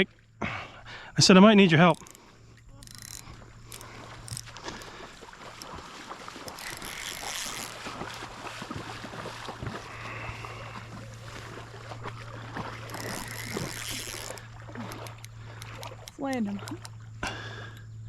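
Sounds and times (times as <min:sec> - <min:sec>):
river water running: 0:00.0 - 0:18.0.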